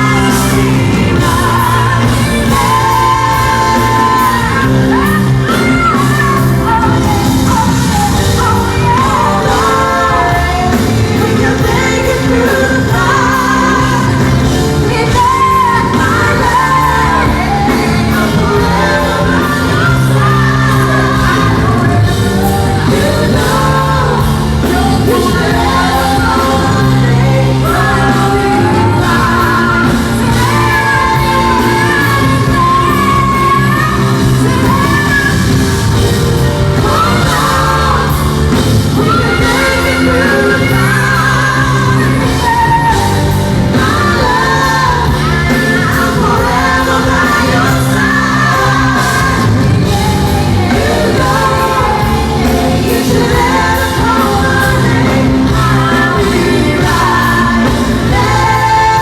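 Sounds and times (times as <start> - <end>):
band playing pop-rock: 0.0 - 59.0
woman singing: 0.0 - 59.0.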